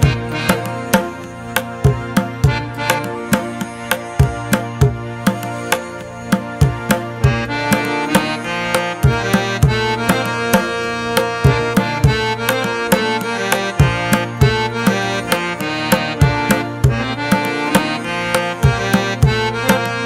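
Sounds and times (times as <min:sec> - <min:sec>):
steady drum beat: 0:00.0 - 0:19.9
held melodic tones: 0:00.0 - 0:20.0.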